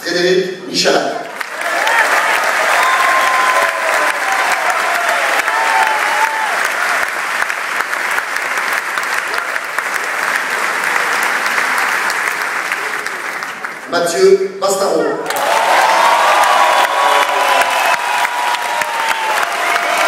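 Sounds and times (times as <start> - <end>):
audience applauding: 1.2 - 13.9, 15.2 - 20.0.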